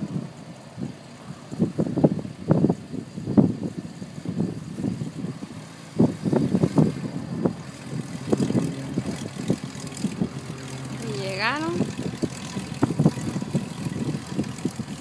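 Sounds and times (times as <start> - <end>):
aircraft piston engine idling: 0.0 - 15.0
wind buffeting microphone: 0.0 - 15.0.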